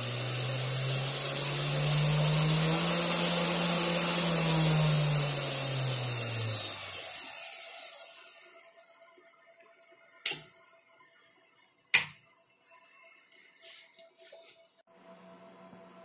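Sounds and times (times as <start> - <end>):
spindle motor whine: 0.0 - 16.0.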